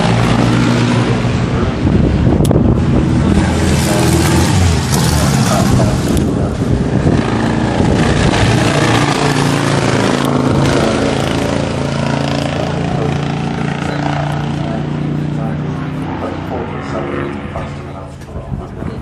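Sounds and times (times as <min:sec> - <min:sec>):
car engine running loudly: 0:00.0 - 0:19.0.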